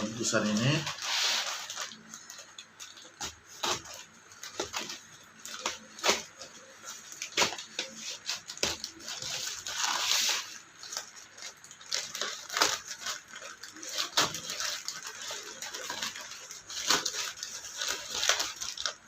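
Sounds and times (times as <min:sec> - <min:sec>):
packaging clicks and crinkles: 0:00.0 - 0:19.0
packaging rustle: 0:00.0 - 0:19.0.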